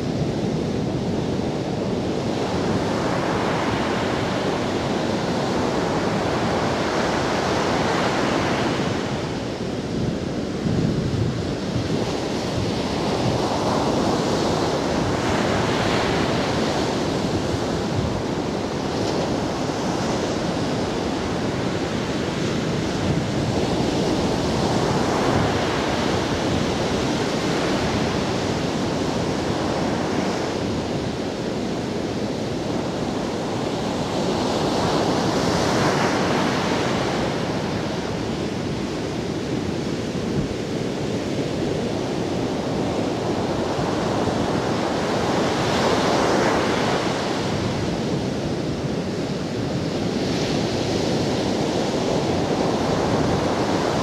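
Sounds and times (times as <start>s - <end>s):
ocean waves breaking on sand: 0.0s - 54.0s
wind on microphone: 0.0s - 54.0s.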